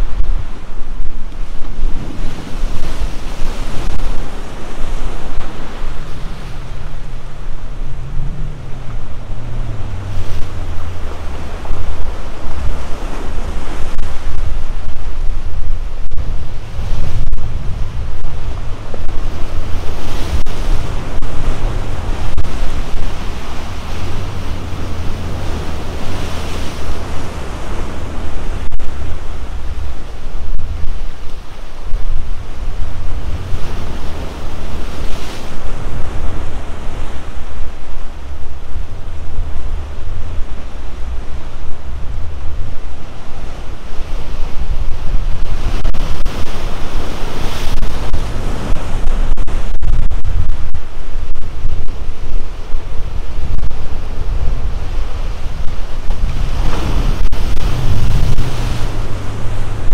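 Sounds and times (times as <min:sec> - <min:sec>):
waves crashing on rocks: 0:00.0 - 0:59.9
wind buffeting microphone: 0:00.0 - 0:59.9.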